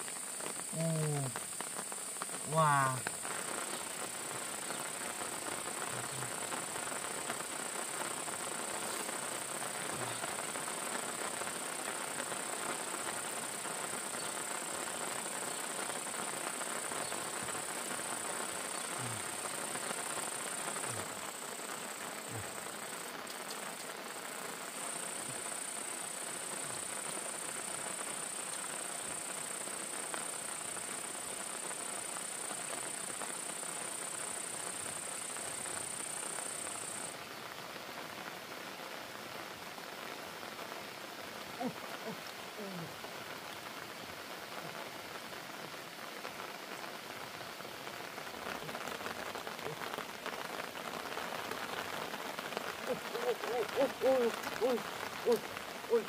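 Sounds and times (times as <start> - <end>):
high insect drone: 0.0 - 38.7, 39.7 - 56.0
steady rain hiss: 0.0 - 56.0.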